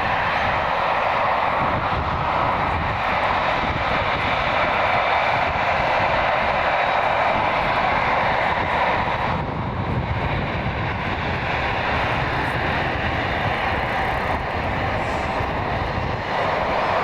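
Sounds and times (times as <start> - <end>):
jet airliner flying by: 0.0 - 17.0.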